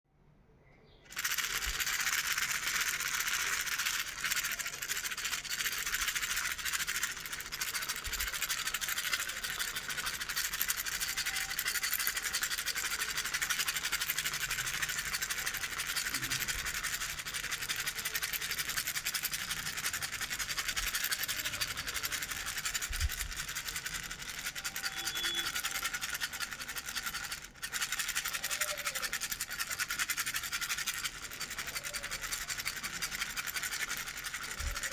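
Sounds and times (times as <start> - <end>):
baby rattle shaken: 1.1 - 34.9.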